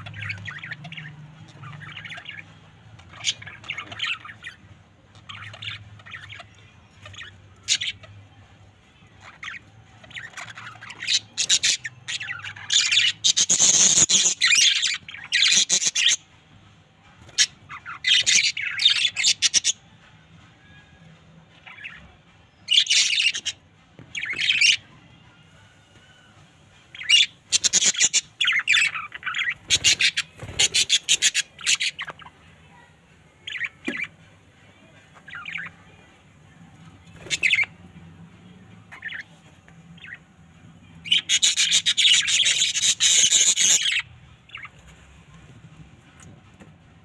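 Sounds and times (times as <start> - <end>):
budgerigars chirping and chattering: 0.0 - 19.9, 21.5 - 34.2, 34.8 - 47.0.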